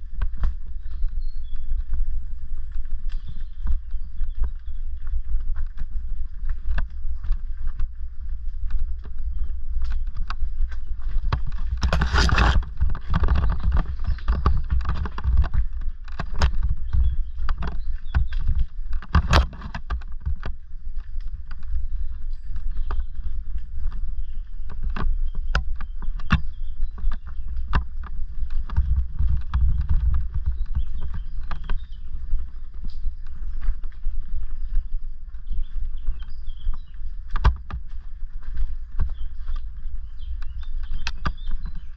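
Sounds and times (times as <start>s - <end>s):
wind and tyres rumbling: 0.0s - 41.9s
wheels knocking on stones: 2.7s - 41.9s.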